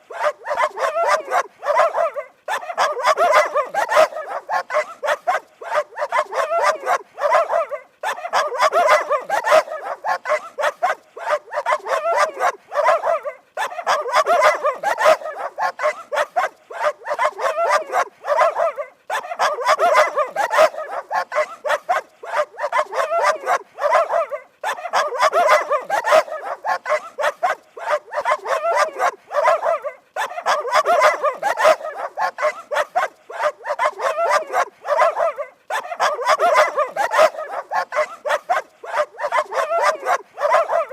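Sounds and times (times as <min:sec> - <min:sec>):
dog barking rapidly: 0:00.1 - 0:40.9.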